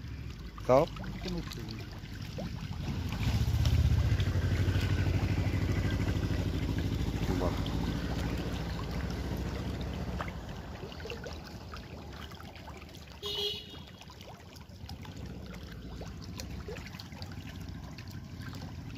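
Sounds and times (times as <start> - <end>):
low engine hum: 0.0 - 18.9
water trickling and splashing: 0.0 - 18.9.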